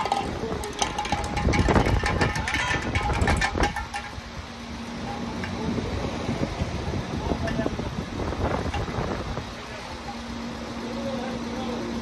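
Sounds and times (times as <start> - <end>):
crane engine running: 0.0 - 12.0.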